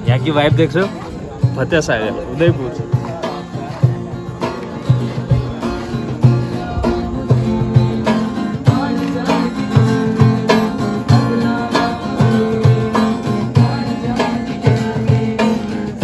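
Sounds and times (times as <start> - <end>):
plucked guitar music with beat: 0.0 - 16.0.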